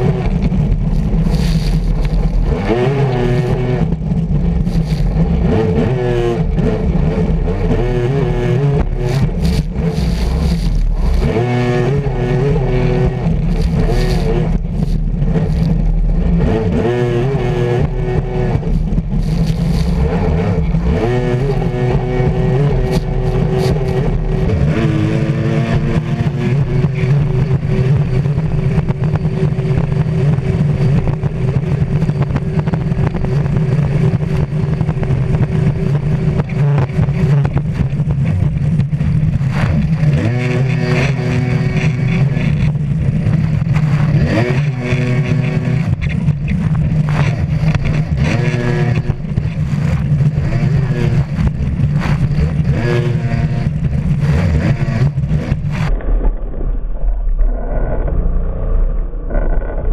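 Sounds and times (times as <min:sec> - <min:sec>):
jet ski engine revving: 0:00.0 - 0:56.0.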